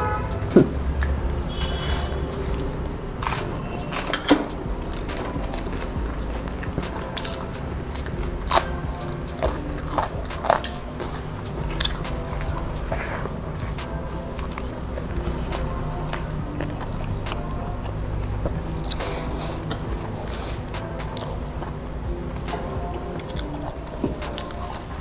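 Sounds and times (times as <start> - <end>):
chewing food: 0.2 - 25.0.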